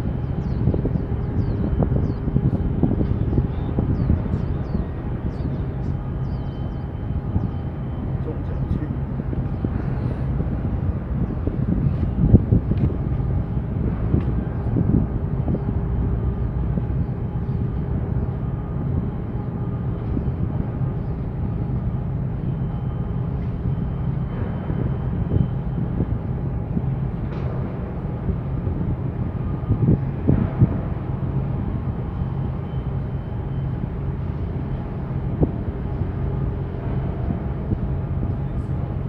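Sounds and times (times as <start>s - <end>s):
low engine drone: 0.0s - 39.0s.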